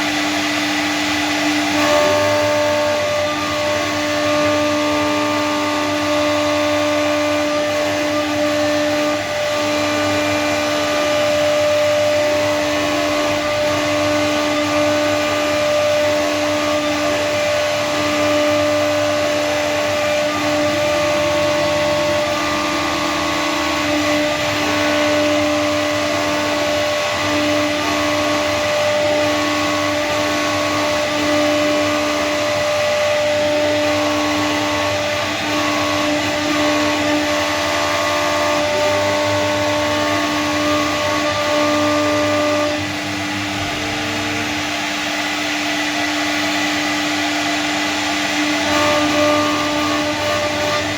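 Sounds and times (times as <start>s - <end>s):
motor tones gliding: 0.0s - 50.9s
router spindle whine: 0.0s - 50.9s.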